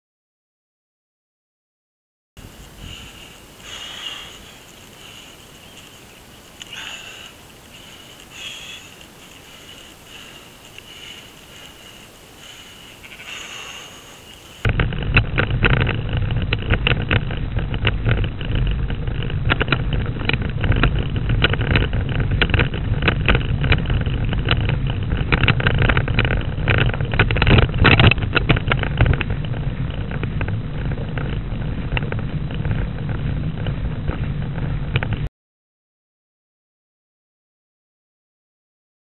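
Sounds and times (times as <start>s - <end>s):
road vibration rumble: 2.4s - 35.3s
wind on microphone: 2.4s - 35.3s.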